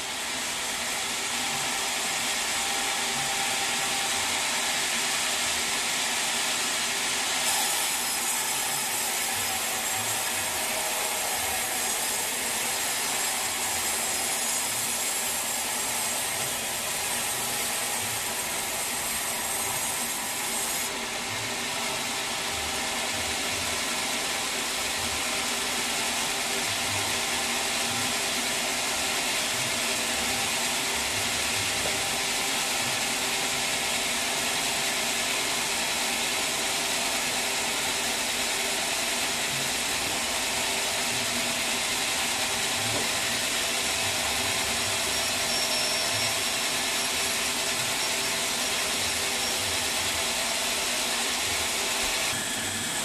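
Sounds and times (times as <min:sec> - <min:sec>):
sawmill saw cutting wood: 0:00.0 - 0:53.0.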